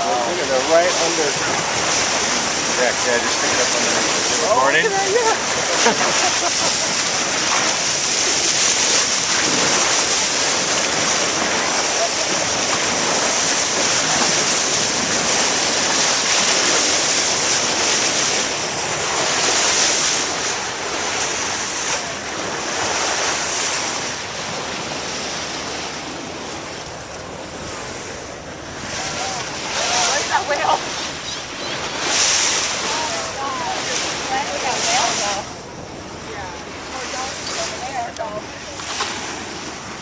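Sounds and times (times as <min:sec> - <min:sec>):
water splashing against a boat: 0:00.0 - 0:40.0.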